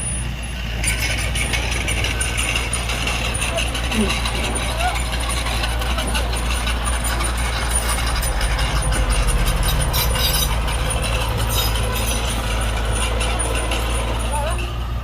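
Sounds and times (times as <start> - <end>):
heavy machinery engine drone: 0.0 - 15.0
metallic clanking and rattling: 0.0 - 15.0.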